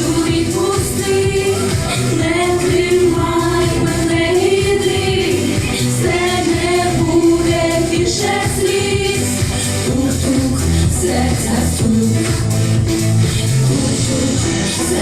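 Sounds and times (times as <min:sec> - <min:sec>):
instrumental backing track: 0:00.0 - 0:15.0
vocal group singing pop song: 0:00.0 - 0:15.0.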